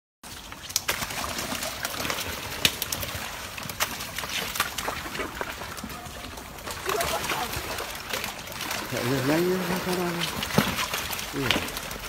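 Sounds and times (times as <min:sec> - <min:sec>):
crocodile claws scraping on wet concrete: 0:00.3 - 0:12.0.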